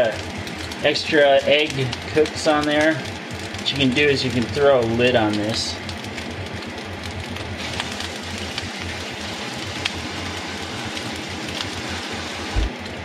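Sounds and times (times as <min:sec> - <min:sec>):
rice sizzling in a frying pan: 0:00.0 - 0:13.0
small pops and crackles: 0:00.0 - 0:13.0.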